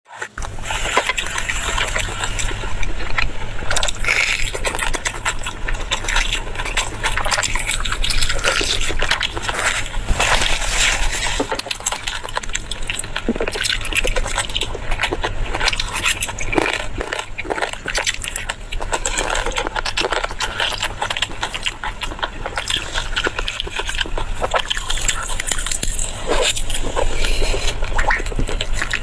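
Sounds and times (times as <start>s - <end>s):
wet chewing and crunching: 0.1s - 29.0s
steady low hum: 0.4s - 29.0s.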